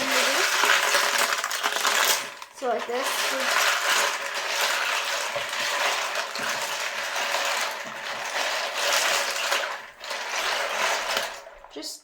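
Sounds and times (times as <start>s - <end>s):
running water: 0.0s - 11.9s.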